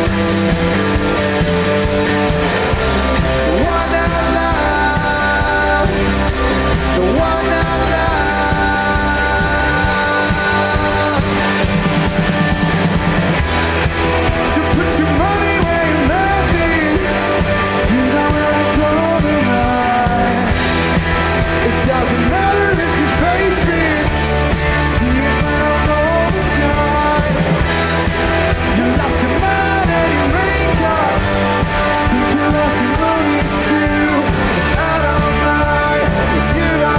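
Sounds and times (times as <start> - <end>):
gliding melodic lead line: 0.0 - 36.9
rock band playing live: 0.0 - 36.9.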